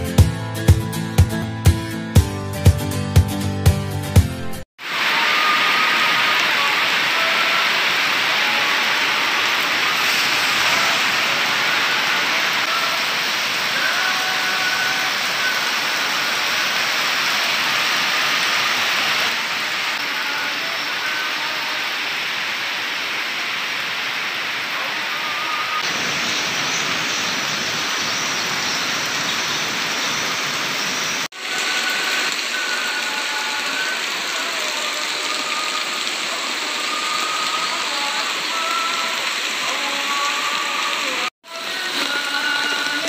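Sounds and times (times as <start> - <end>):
heavy rain pouring: 4.4 - 43.0.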